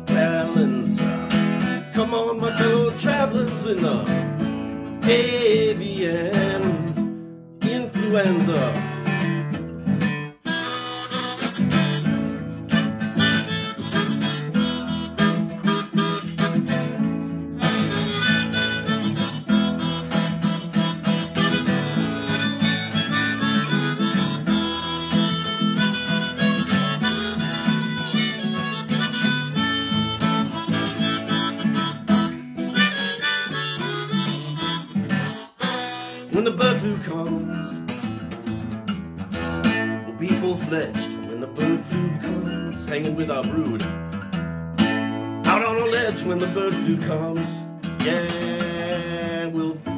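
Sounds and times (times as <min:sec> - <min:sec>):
harmonica solo: 0:00.0 - 0:43.0
acoustic guitar strumming: 0:00.0 - 0:49.9.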